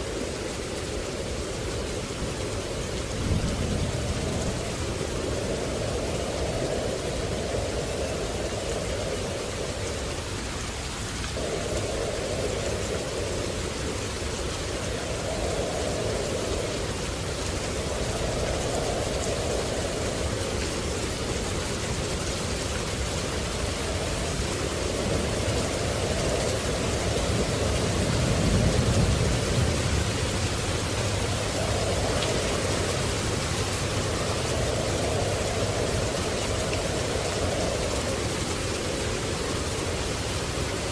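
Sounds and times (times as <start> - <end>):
heavy rain: 0.0 - 40.9
low rumble of thunder: 0.1 - 40.9.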